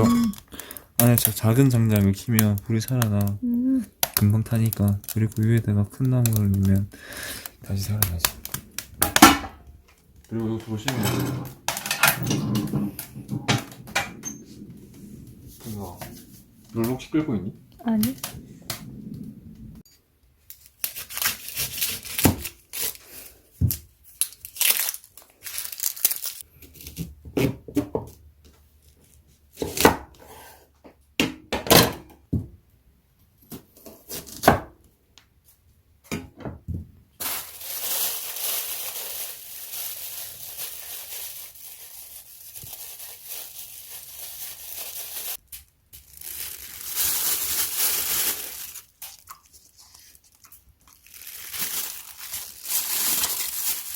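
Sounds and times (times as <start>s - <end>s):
crackling and crumpling: 0.0s - 27.1s, 37.2s - 53.9s.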